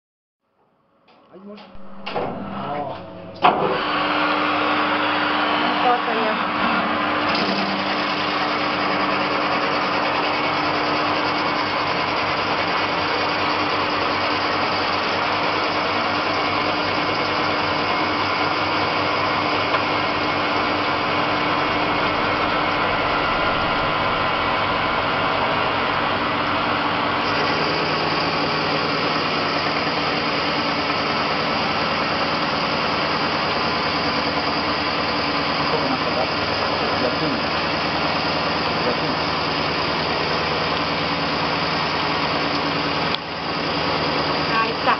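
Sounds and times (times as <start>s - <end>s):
lathe whirring: 1.6s - 44.9s.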